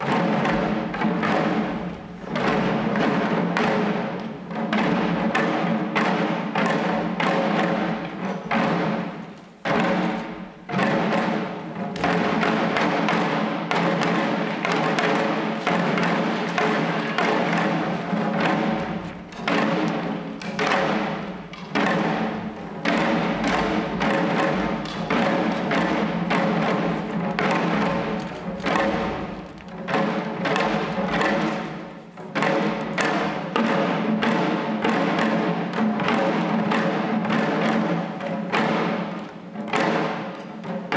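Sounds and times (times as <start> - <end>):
small drums striking: 0.0 - 40.9.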